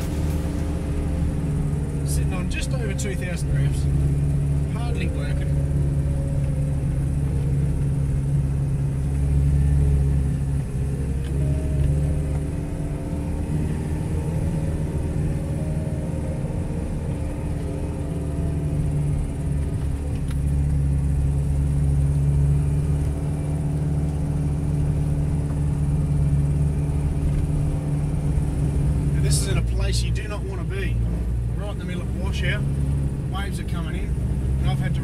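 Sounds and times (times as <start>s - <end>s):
truck engine pulling through sand: 0.0s - 35.0s.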